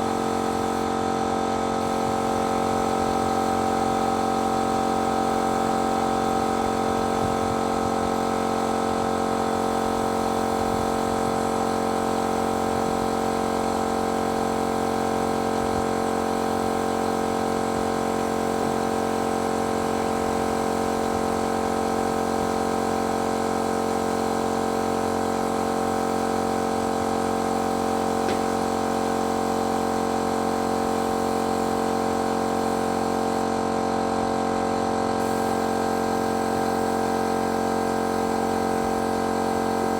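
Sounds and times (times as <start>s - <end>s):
paint-spraying machine humming: 0.0s - 39.9s.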